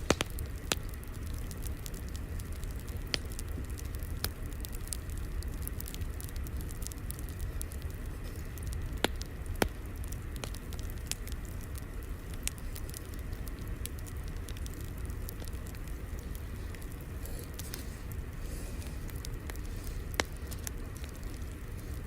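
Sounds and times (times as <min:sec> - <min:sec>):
fire snaps and pops: 0:00.0 - 0:22.0
wood fire crackling: 0:00.0 - 0:22.0.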